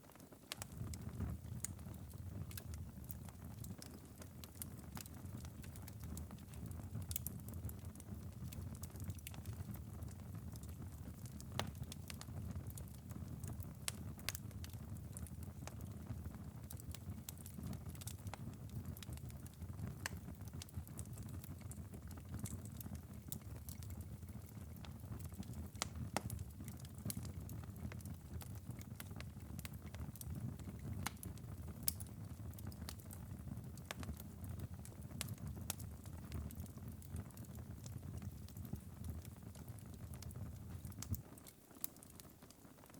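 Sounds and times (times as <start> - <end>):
embers crackling and popping: 0.0 - 42.9
low fire rumble: 0.6 - 41.4.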